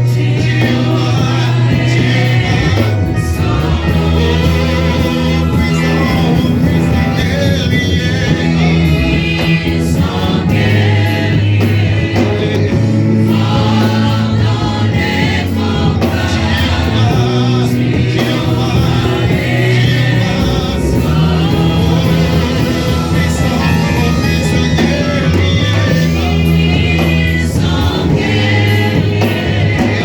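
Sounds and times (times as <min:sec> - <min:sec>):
band with steady bass line: 0:00.0 - 0:30.0
group of voices singing: 0:00.0 - 0:30.0.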